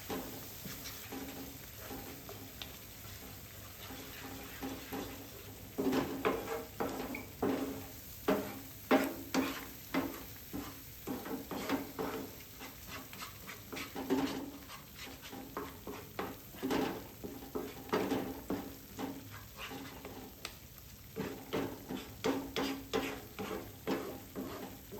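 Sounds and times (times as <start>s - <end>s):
metal utensil scraping a pan: 0.0s - 2.4s, 3.2s - 20.4s, 21.2s - 24.9s
frying sizzle: 0.0s - 24.9s.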